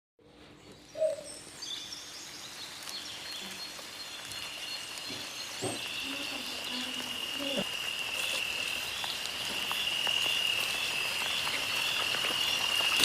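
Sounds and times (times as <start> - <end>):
birds chirping: 0.2 - 13.0
steady background hiss: 0.2 - 13.0.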